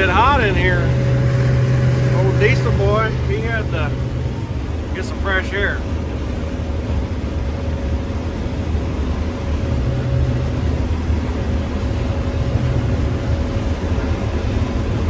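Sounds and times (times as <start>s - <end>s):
combine harvester engine drone: 0.0s - 15.0s
faint steady whine: 0.0s - 15.0s.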